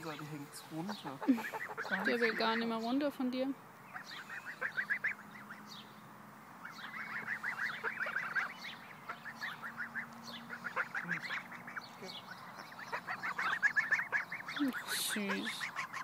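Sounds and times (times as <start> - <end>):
geese chattering: 0.0 - 16.0.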